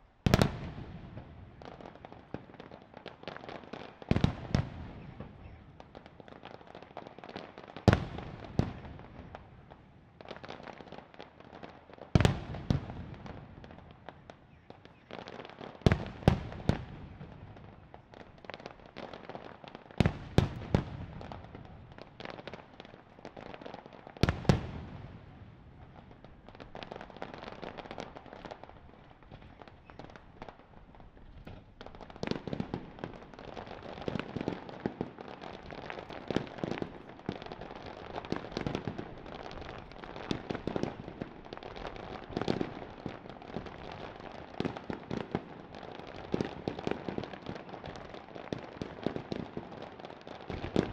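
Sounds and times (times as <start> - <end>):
fireworks popping and crackling: 0.0 - 50.9.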